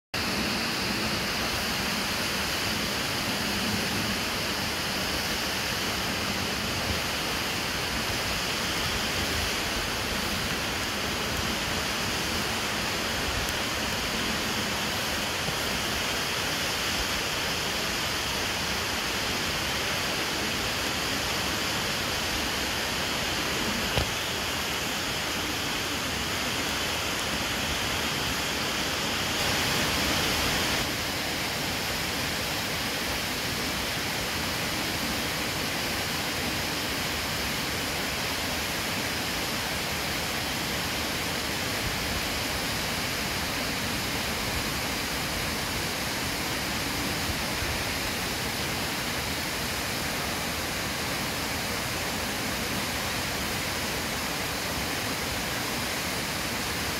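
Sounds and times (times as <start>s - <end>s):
waterfall rushing: 0.2s - 56.9s.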